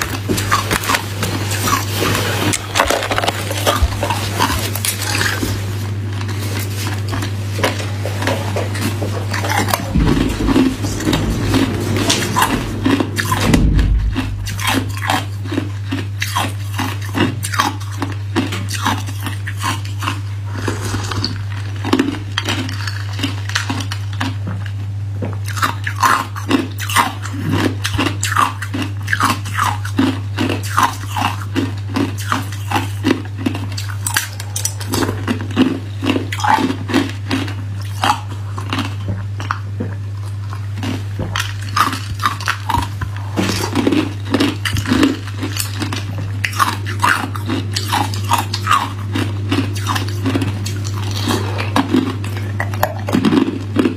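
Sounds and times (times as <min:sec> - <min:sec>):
ice cubes crunching when chewed: 0:00.0 - 0:53.9
steady low hum: 0:00.0 - 0:53.9.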